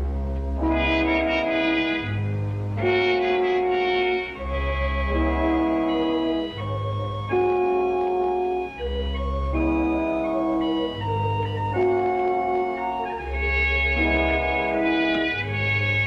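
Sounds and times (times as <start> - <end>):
deep bass line: 0.0 - 16.0
held chords music score: 0.0 - 16.0.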